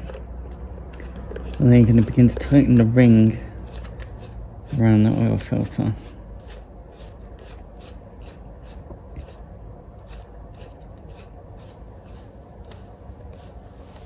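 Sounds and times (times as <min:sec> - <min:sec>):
ratcheting clicks and scrapes: 0:00.0 - 0:14.0.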